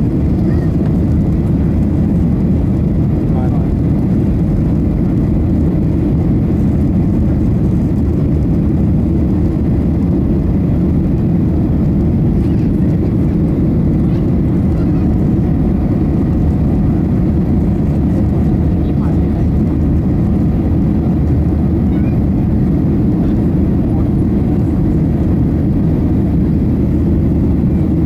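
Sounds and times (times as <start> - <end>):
airflow over fuselage: 0.0 - 28.0
airplane cabin engine rumble: 0.0 - 28.0.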